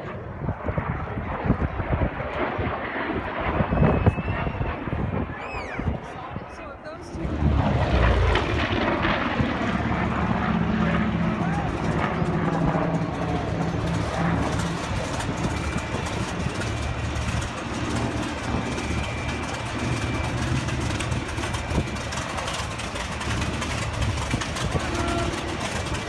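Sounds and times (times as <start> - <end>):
propeller aircraft engine drone: 0.0 - 26.0.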